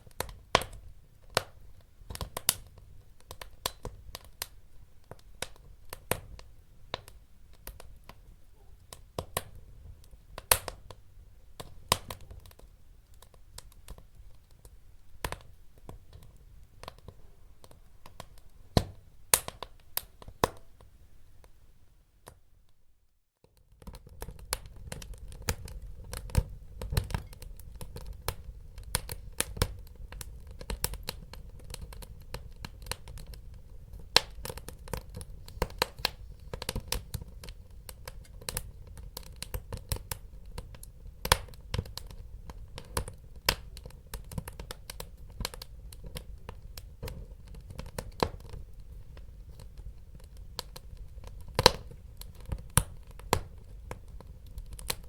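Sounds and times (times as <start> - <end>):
low rumble of burning: 0.0 - 20.6, 23.5 - 55.0
wood fire crackling: 0.0 - 22.4, 23.5 - 55.0.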